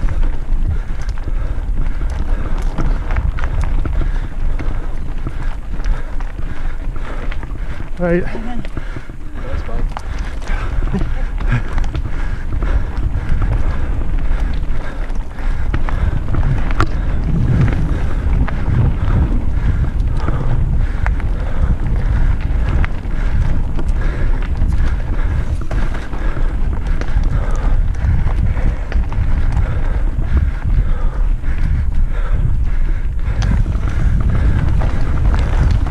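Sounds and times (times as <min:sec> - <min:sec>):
stones and bike clicking and rattling: 0:00.0 - 0:35.9
tyres rumbling on loose gravel: 0:00.0 - 0:35.9
wind buffeting microphone: 0:00.0 - 0:35.9.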